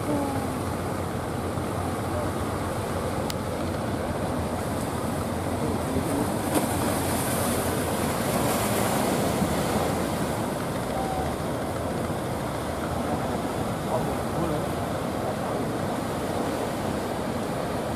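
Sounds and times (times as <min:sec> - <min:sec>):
surf breaking on the shore: 0:00.0 - 0:17.9.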